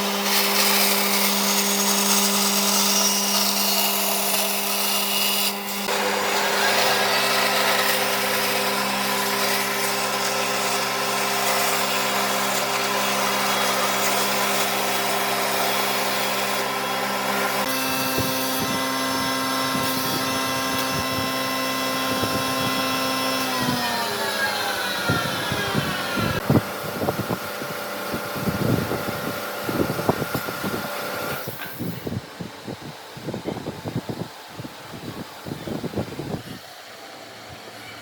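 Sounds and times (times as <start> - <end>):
power tool motor running: 0.0 - 32.2.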